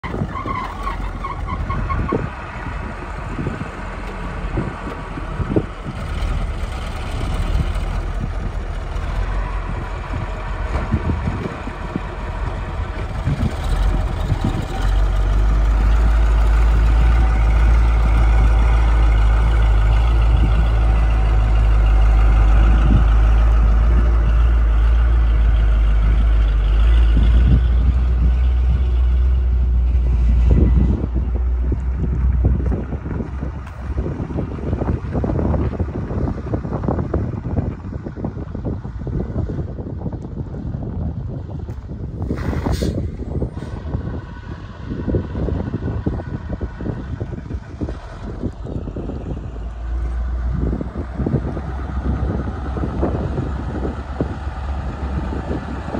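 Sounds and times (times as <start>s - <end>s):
truck engine rumbling: 0.0s - 55.9s.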